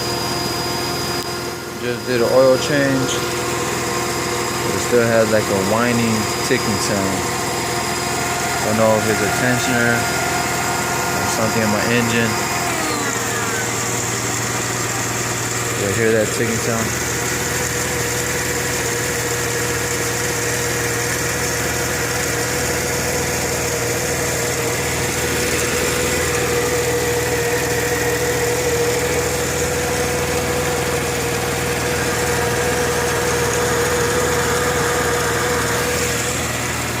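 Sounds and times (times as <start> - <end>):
car engine idling: 0.0 - 37.0
engine ticking: 0.0 - 37.0
engine whine: 0.0 - 37.0.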